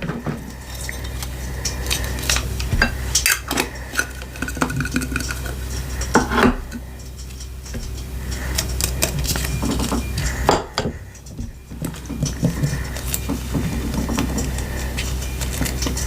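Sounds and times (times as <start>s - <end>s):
utensil clinking against bowl: 0.0s - 16.0s.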